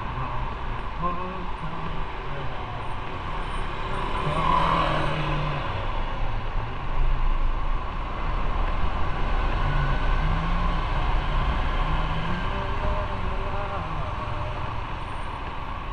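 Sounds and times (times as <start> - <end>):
road and wind noise: 0.0 - 15.9.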